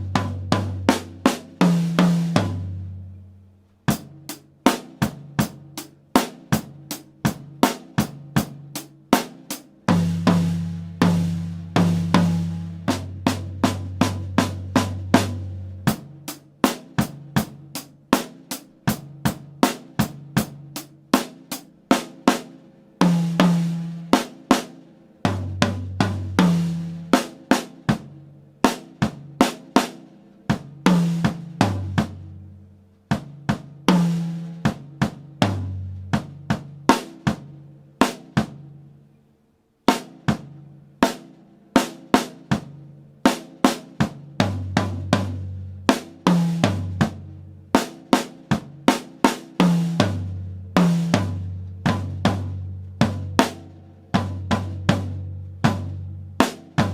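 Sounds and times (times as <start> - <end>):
drum kit playing: 0.0 - 3.2, 3.8 - 38.9, 39.8 - 56.9.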